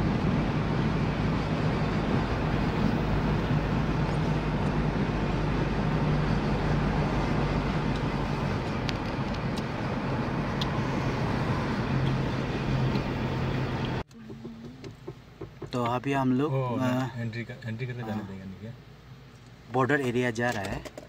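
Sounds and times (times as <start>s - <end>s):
car engine and tyre hum: 0.0s - 21.0s.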